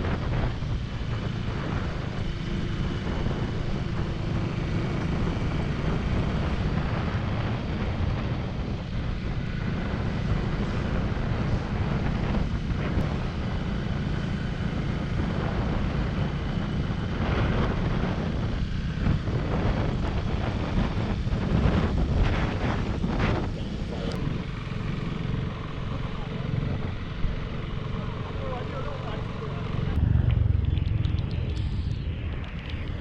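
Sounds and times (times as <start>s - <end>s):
wind noise on microphone: 0.0s - 27.6s, 29.8s - 33.0s
motorcycle engine rumbling: 0.0s - 33.0s.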